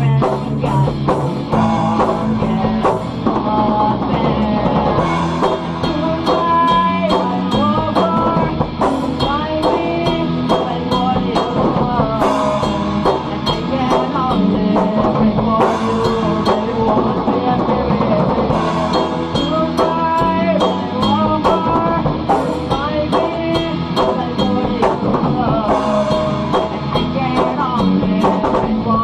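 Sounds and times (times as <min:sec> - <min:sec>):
drum kit beat: 0:00.0 - 0:29.0
rock band playing: 0:00.0 - 0:29.0.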